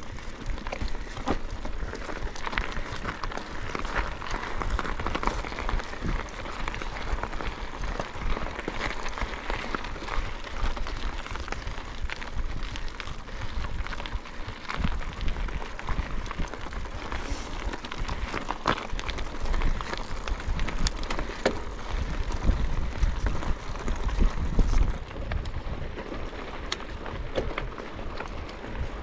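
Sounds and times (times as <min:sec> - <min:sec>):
bike clicks and rattles: 0:00.0 - 0:29.0
tyre noise on trail: 0:00.0 - 0:29.0
wind rumbling on microphone: 0:00.0 - 0:29.0.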